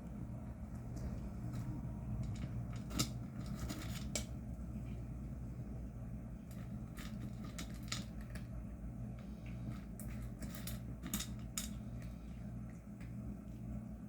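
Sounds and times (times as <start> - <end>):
cats eating with crunches: 0.1 - 13.6.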